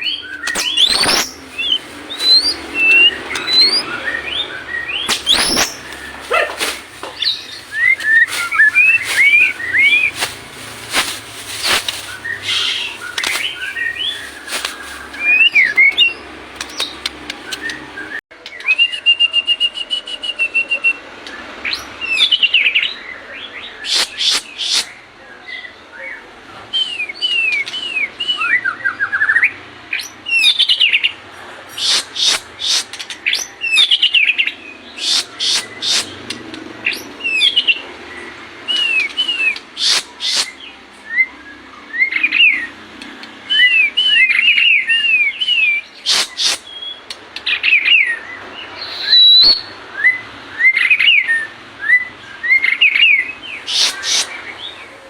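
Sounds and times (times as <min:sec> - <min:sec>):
bird singing: 0:00.0 - 0:55.0.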